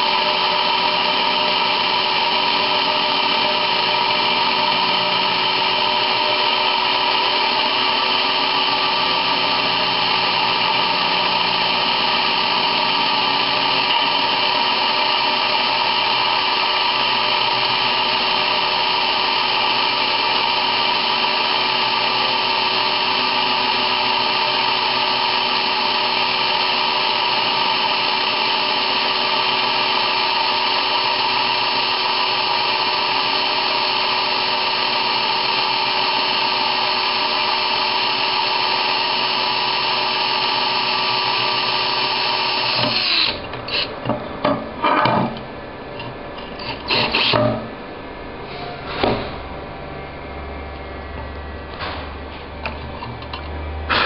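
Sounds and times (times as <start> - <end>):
drill bit grinding tile: 0.0 - 44.1, 46.0 - 47.4
power drill motor whine: 0.0 - 44.1, 46.4 - 47.4.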